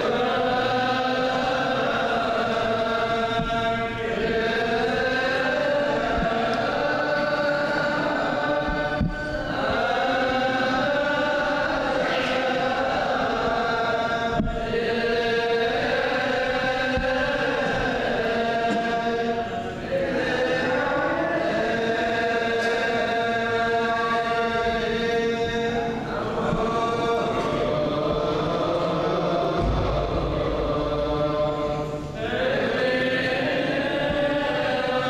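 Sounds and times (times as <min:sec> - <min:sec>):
men chanting in unison: 0:00.0 - 0:35.0.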